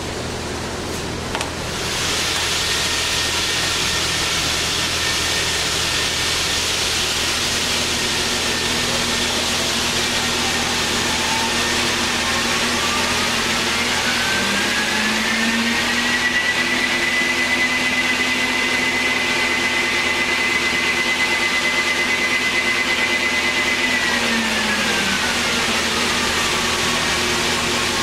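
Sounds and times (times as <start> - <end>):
lathe motor whirring: 1.6 - 28.0
rising motor whine: 1.7 - 28.0.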